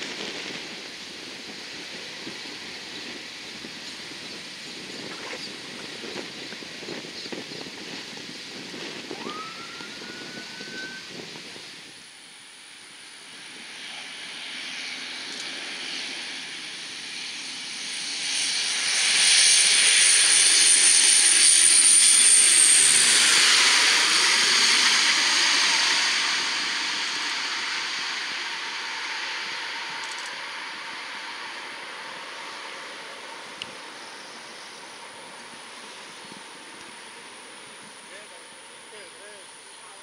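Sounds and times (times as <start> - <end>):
turboprop aircraft passing overhead: 0.0 - 40.0.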